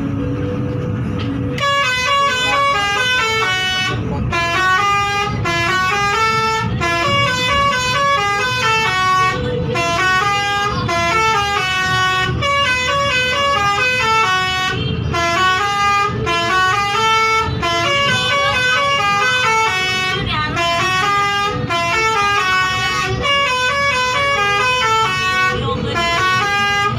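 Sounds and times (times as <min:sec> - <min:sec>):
multi-tone bus horn melody: 0:00.0 - 0:26.9.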